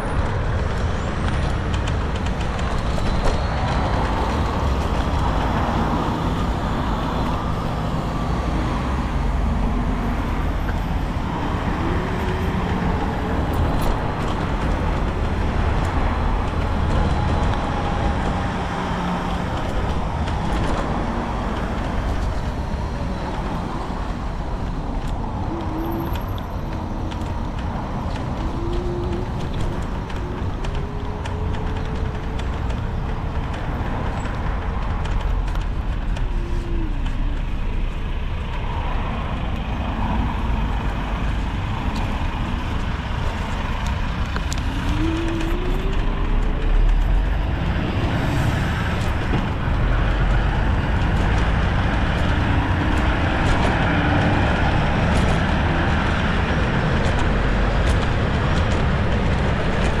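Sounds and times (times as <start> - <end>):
low rumble and road noise: 0.0 - 60.0
traffic: 0.0 - 60.0.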